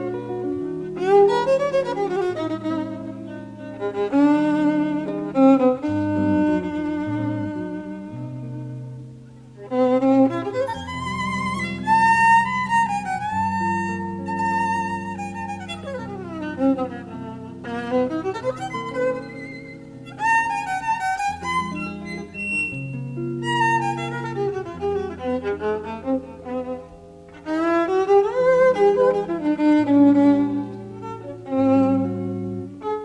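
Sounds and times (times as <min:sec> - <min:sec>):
jazz violin melody: 0:00.0 - 0:33.0.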